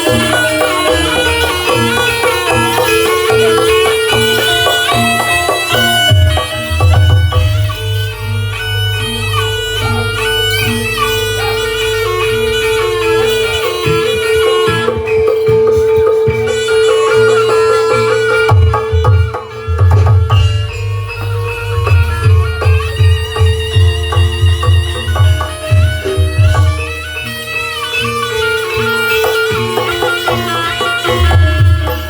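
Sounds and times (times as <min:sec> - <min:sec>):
drums beating: 0:00.0 - 0:27.1
reedy wind instrument melody: 0:00.0 - 0:32.0.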